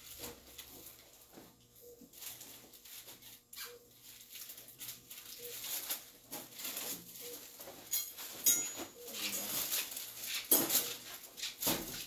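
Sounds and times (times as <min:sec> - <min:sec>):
rustling of wrappers: 0:00.0 - 0:08.5, 0:09.1 - 0:12.0.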